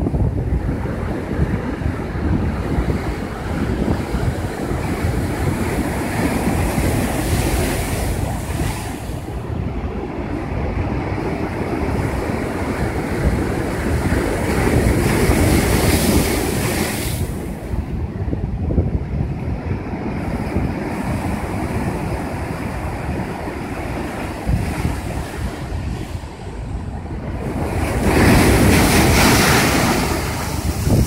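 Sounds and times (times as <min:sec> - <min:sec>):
ocean surf breaking on rocks: 0:00.0 - 0:18.8, 0:19.4 - 0:31.0
wind buffeting microphone: 0:00.0 - 0:31.0.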